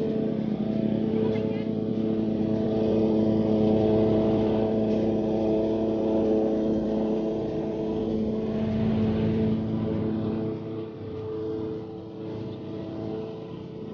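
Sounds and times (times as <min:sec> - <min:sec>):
lawn mower engine running: 0:00.0 - 0:13.9.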